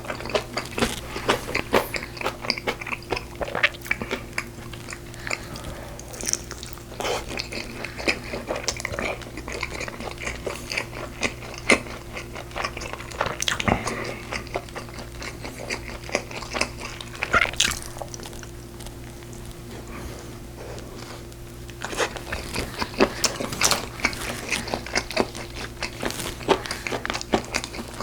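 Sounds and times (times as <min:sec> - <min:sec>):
person chewing: 0:00.0 - 0:28.0
steady low hum: 0:00.0 - 0:28.0.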